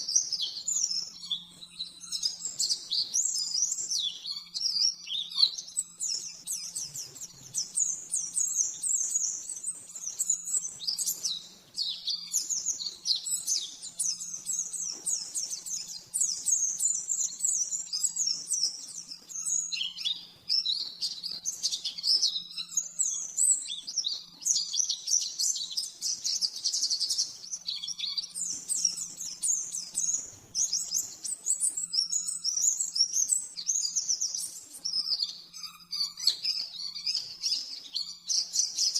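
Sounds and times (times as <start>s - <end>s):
bird warbling song: 0.0s - 38.9s.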